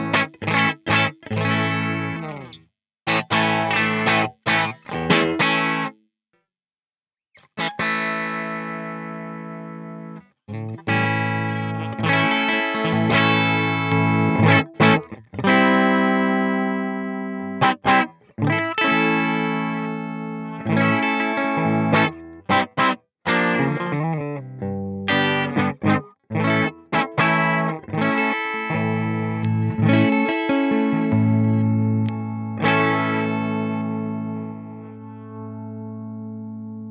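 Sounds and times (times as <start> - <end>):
electric guitar chords ringing: 0.0 - 6.0, 7.6 - 36.9.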